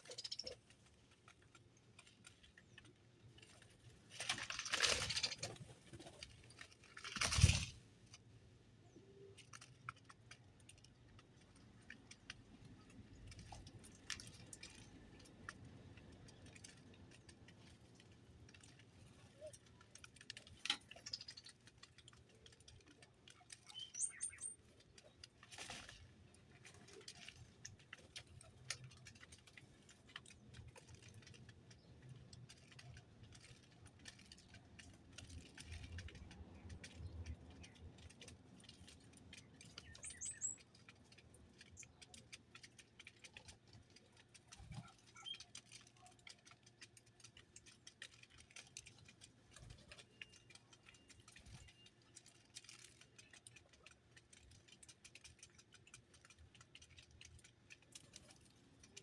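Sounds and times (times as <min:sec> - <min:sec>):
birds pecking: 0:00.0 - 0:59.0.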